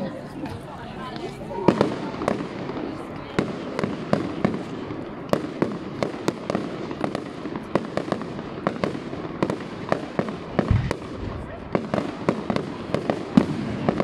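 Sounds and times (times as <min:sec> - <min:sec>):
continuous noisy background: 0:00.0 - 0:14.0
fireworks bangs: 0:00.3 - 0:14.0.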